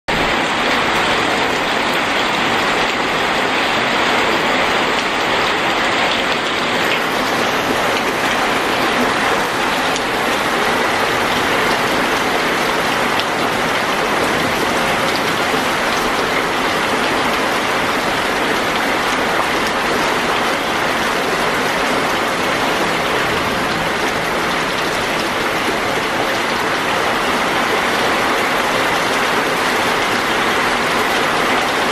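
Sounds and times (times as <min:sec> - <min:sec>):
heavy rain splashing on water: 0:00.1 - 0:31.9.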